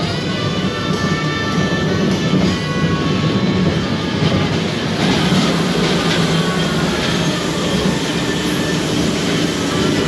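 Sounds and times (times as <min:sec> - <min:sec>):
roller coaster wheels rumbling: 0:00.0 - 0:10.0.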